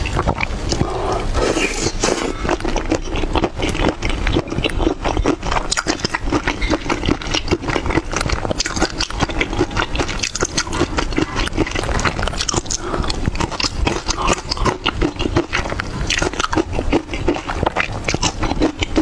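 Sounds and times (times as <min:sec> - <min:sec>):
person chewing with crunches: 0:00.0 - 0:19.0.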